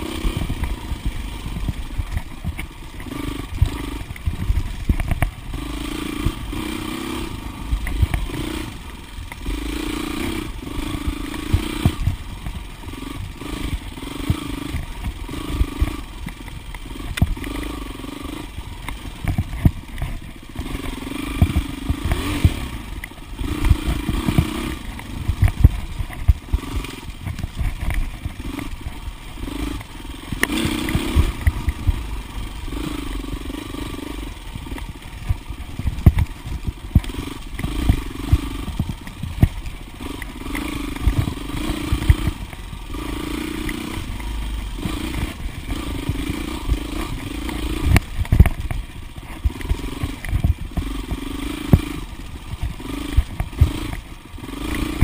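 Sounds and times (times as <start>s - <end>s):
knocks and clatter of bike: 0.0s - 55.0s
motorcycle engine revving: 0.0s - 55.0s.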